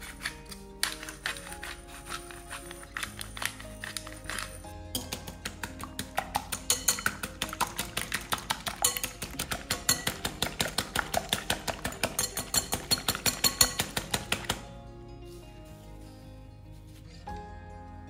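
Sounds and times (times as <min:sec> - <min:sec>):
whisk clinking against glass bowl: 0:00.0 - 0:14.6
light background music: 0:00.0 - 0:18.0.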